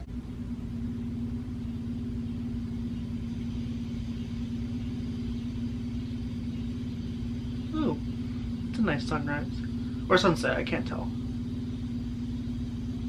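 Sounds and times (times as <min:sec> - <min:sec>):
faint pulsing rumble: 0:00.0 - 0:13.0
low droning hum: 0:00.0 - 0:13.0.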